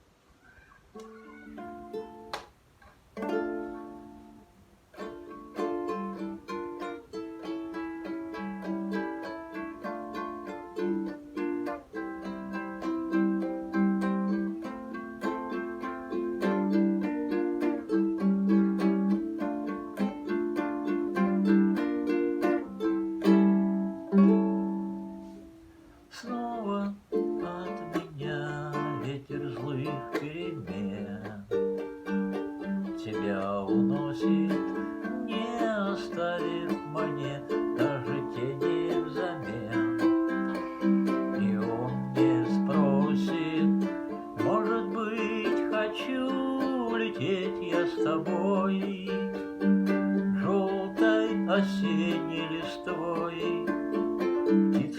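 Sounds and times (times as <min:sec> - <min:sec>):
ukulele strumming chords: 0:01.0 - 0:02.6, 0:03.2 - 0:54.9.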